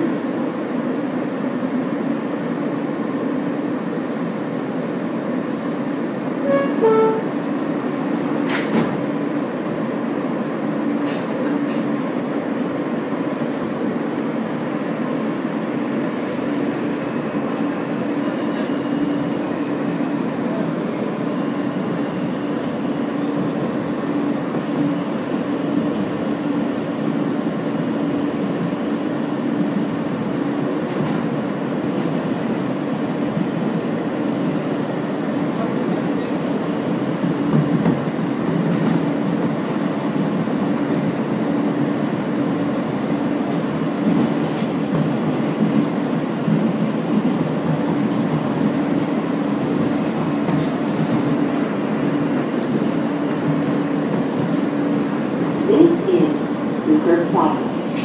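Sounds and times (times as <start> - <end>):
subway car rumbling: 0.0 - 58.0.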